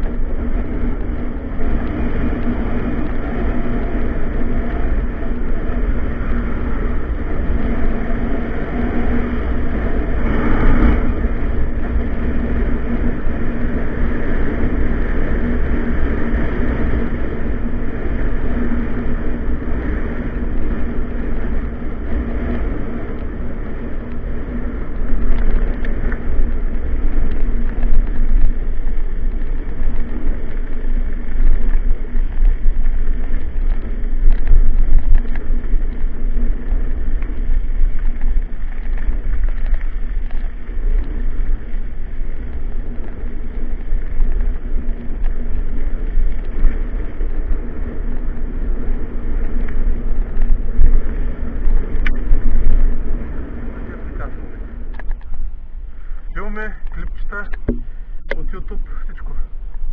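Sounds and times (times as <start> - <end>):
car passing: 0.0 - 59.6
bicycle tyre rumble: 0.0 - 59.9
wind buffeting microphone: 0.0 - 59.9.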